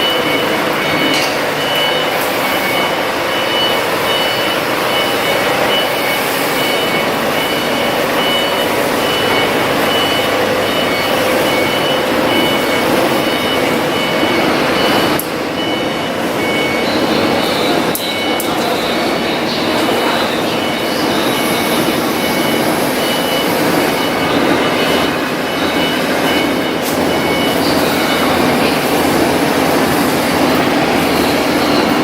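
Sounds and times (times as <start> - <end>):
diesel generator running: 0.0 - 32.0
high electronic beep: 0.0 - 32.0.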